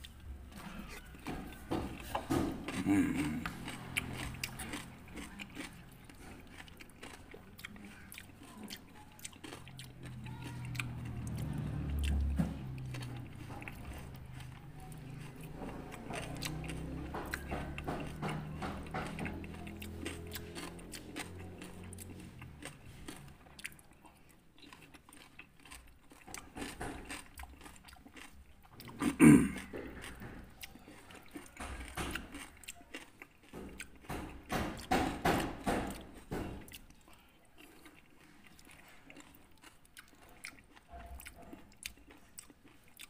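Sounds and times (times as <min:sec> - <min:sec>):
chewing and crunching fruit: 0:00.0 - 0:43.0.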